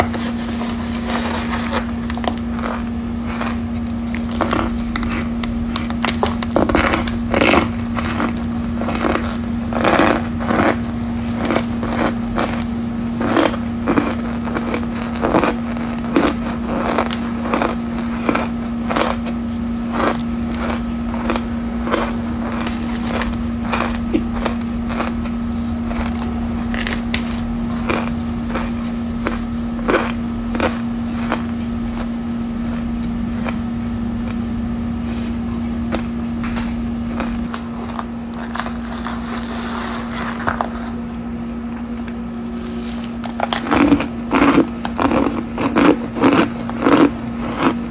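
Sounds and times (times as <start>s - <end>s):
powder crunching as eaten: 0.0s - 34.5s, 35.1s - 41.0s, 41.9s - 47.9s
steady low hum: 0.0s - 47.9s.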